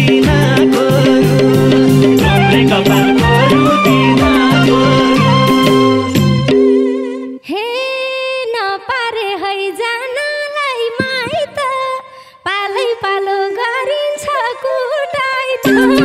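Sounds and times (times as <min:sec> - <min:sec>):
woman singing unaccompanied: 0:00.0 - 0:05.8, 0:07.4 - 0:16.0.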